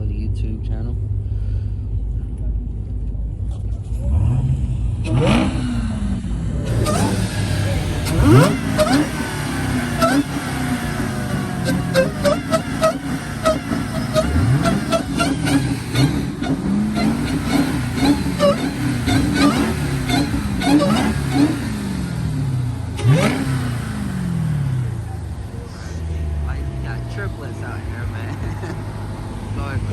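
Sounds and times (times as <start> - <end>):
car engines revving: 0.0 - 29.9
exhaust pops and crackles: 2.2 - 29.9.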